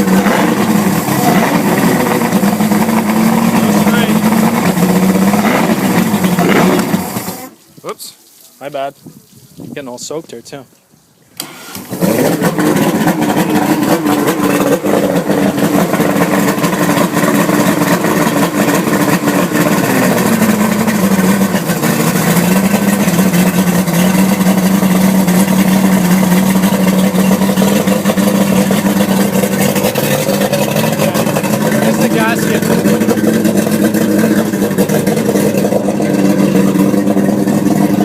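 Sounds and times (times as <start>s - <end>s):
outboard motor running: 0.0s - 7.6s, 11.4s - 38.0s.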